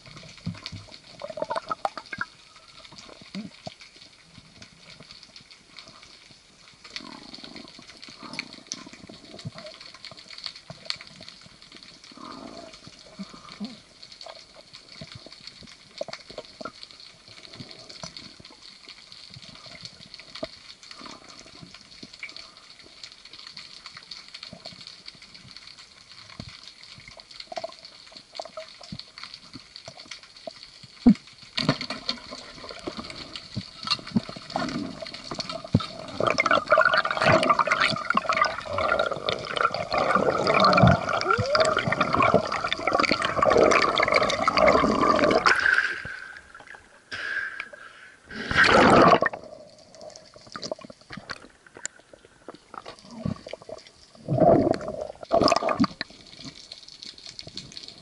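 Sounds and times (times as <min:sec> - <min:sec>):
bubbling water underwater: 0:00.0 - 0:58.0.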